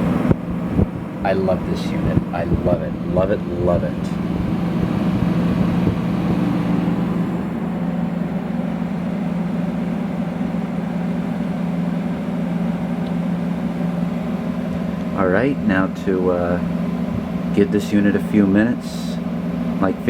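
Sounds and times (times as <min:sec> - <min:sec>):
air conditioner motor hum: 0:00.0 - 0:20.0
fan blowing air: 0:00.0 - 0:20.0.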